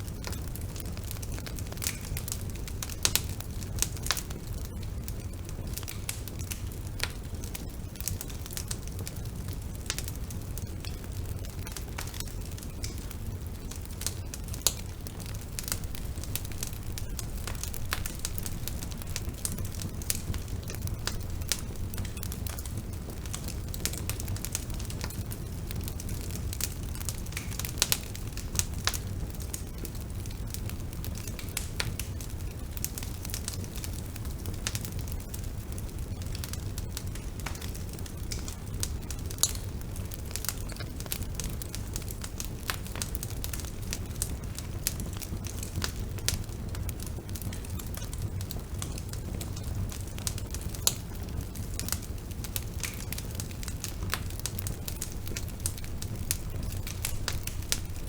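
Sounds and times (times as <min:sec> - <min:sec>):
bonfire crackling and popping: 0:00.0 - 0:58.0.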